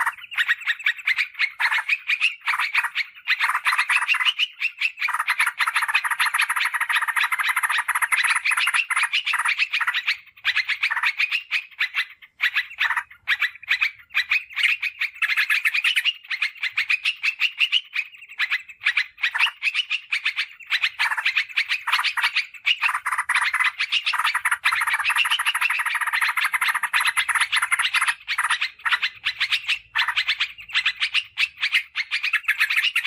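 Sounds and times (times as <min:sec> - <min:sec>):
bird song fast chatter: 0:00.0 - 0:33.0.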